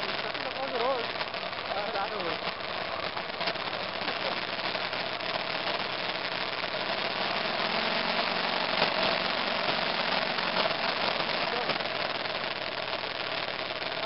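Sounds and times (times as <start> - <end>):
road noise: 0.0 - 14.0
motorcycle engine running: 0.6 - 12.2.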